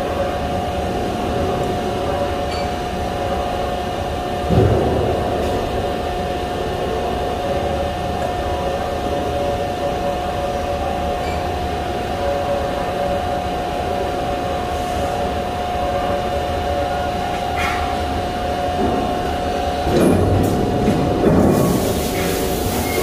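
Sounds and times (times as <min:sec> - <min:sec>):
heavy machinery humming: 0:00.0 - 0:23.0.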